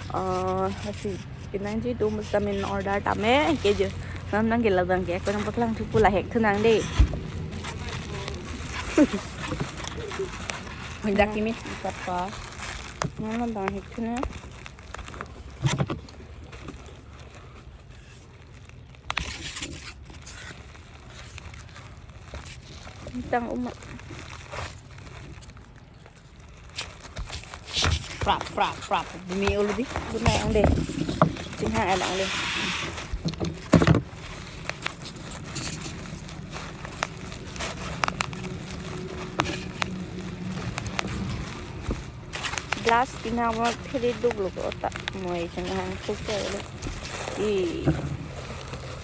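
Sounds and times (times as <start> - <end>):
packaging rustling: 0.0 - 49.0
plastic wrapping tearing: 0.0 - 49.0.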